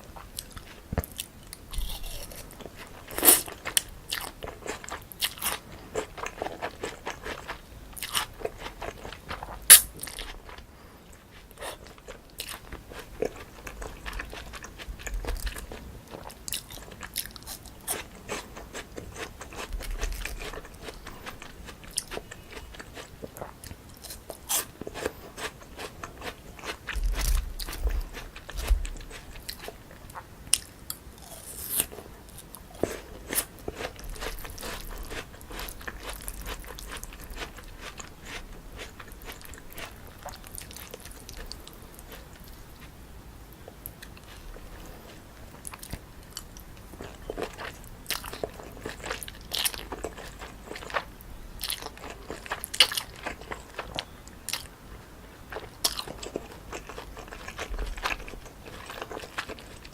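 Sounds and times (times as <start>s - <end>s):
person chewing crunchy food: 0.0s - 43.0s, 43.6s - 59.9s.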